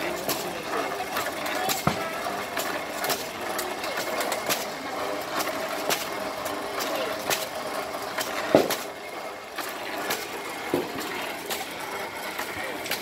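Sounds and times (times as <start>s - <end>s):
market chatter: 0.0s - 13.0s.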